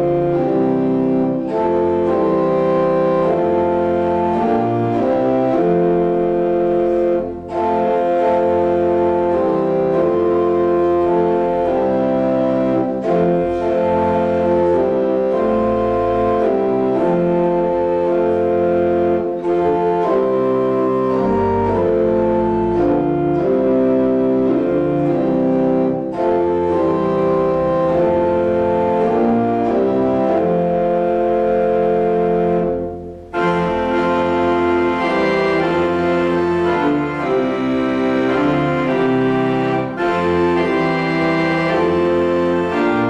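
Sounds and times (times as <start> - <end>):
church organ playing hymn: 0.0 - 43.0.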